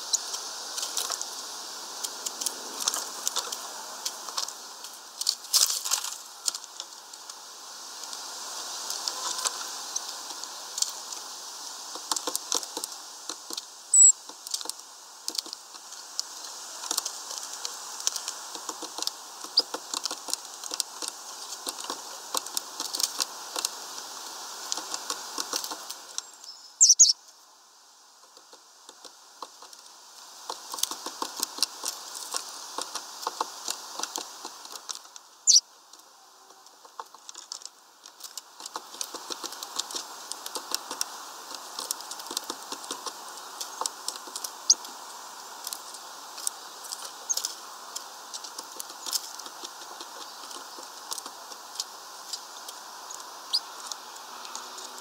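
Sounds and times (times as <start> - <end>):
birds pecking seeds on feeder: 0.0 - 27.1, 28.2 - 55.0.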